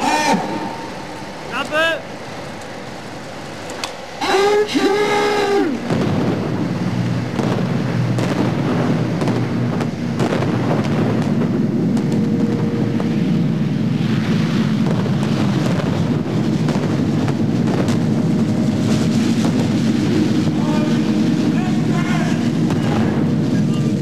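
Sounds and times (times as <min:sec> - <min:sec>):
low rumbling of fire burners: 0:00.0 - 0:24.0
sharp cracks: 0:00.0 - 0:24.0.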